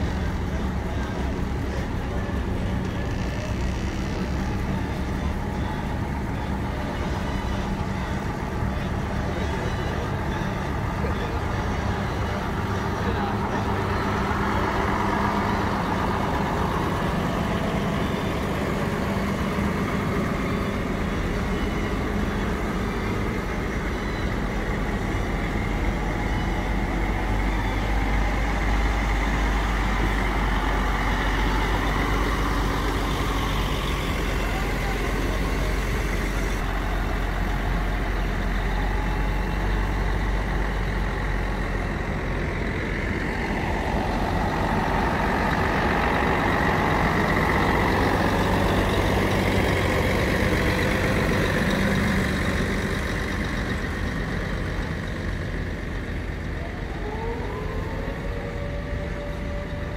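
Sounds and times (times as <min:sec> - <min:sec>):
diesel lorry engines: 0:00.0 - 0:59.9.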